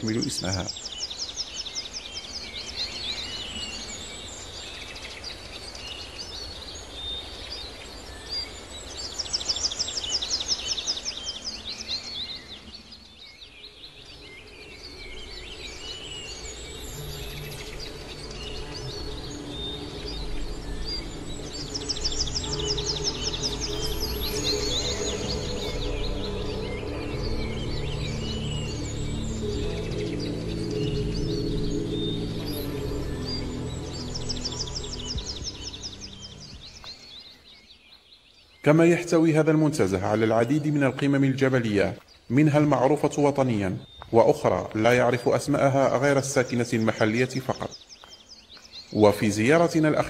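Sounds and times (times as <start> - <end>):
birds trilling: 0.0 - 50.0
soft ambient music: 0.0 - 50.0.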